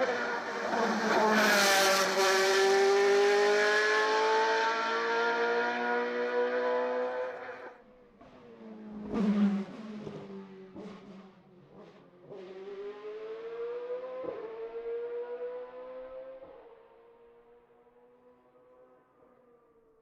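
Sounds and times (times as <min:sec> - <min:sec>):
race car engine at full throttle: 0:00.0 - 0:19.4.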